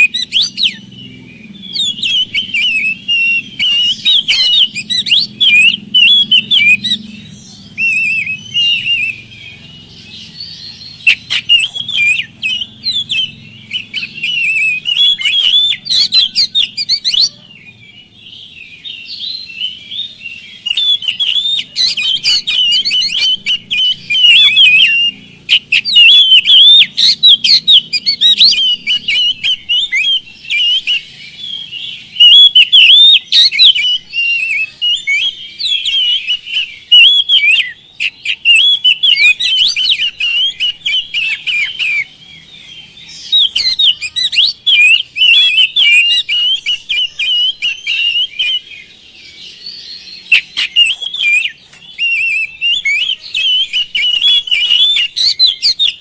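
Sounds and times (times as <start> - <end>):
bird singing whistles and trills: 0.0 - 56.0.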